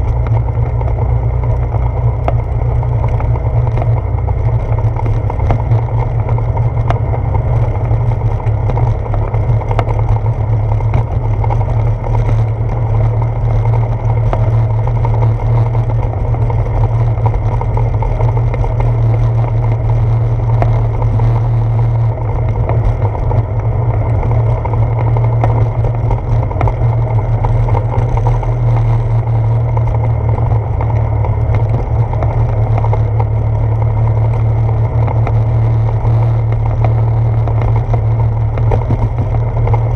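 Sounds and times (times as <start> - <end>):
bicycle tyres rolling on wooden boards: 0.0 - 39.9.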